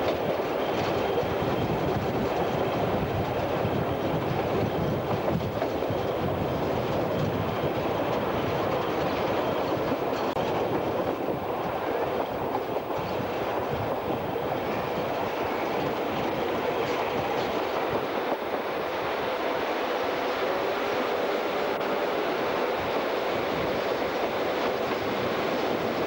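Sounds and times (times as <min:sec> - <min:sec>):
train wheels on rails: 0:00.0 - 0:26.0
wind: 0:00.0 - 0:26.0.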